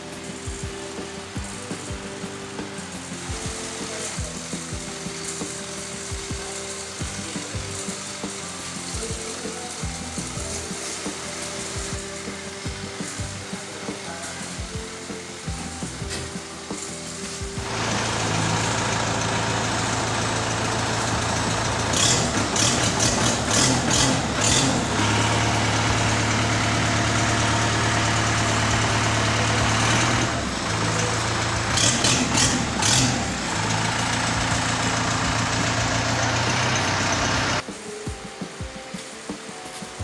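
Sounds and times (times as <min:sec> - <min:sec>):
tractor diesel engine idling: 0:00.0 - 0:37.6
uneven engine noise with hiss: 0:00.0 - 0:40.0.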